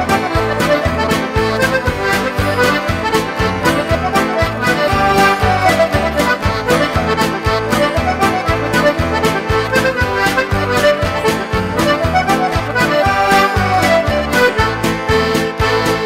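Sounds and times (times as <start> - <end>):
button accordion playing lively tune: 0.0 - 16.0
steady beat: 0.1 - 16.0.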